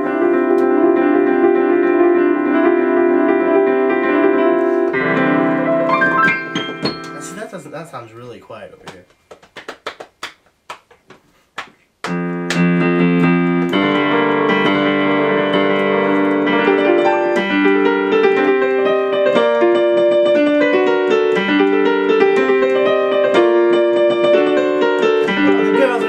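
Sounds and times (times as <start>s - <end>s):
digital piano chords: 0.0s - 8.7s, 12.0s - 26.0s.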